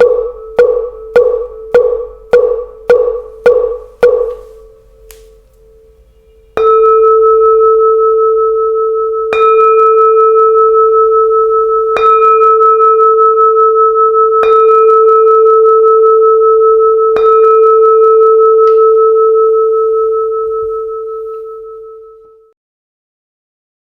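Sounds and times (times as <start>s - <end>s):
bowl bell ringing: 0.0s - 22.5s.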